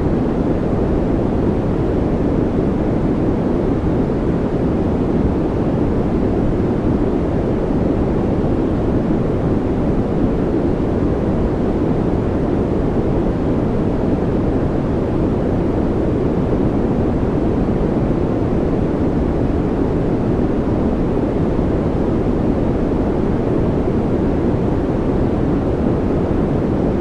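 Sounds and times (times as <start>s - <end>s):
low white noise rush: 0.0s - 27.0s.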